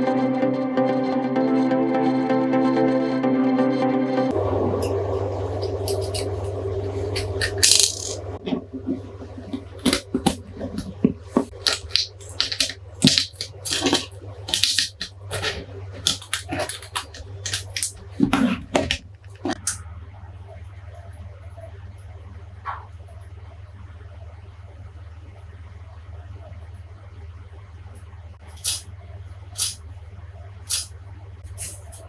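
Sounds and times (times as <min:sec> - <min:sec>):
steady low hum: 0:04.2 - 0:32.0.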